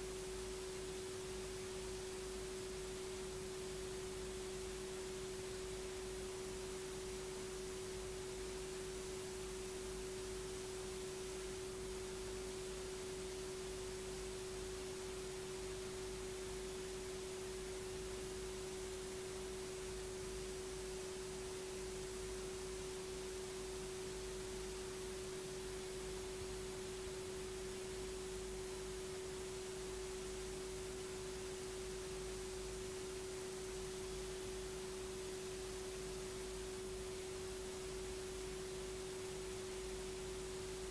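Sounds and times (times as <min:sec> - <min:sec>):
constant hiss: 0:00.0 - 0:40.9.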